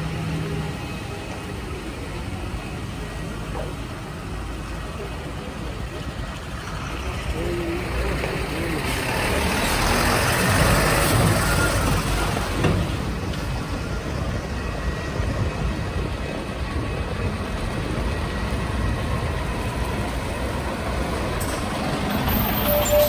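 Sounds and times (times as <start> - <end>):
diesel truck engine running: 0.0 - 22.6.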